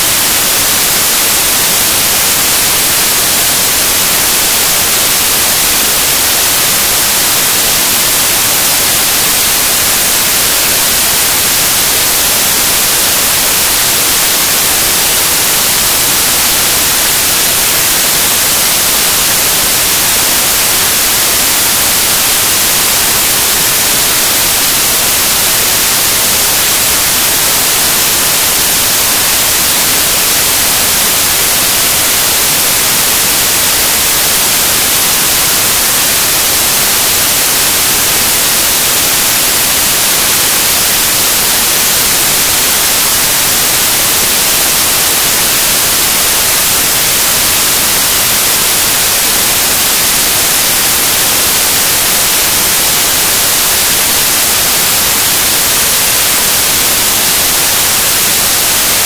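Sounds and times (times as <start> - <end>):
loud static hiss: 0.0 - 59.0.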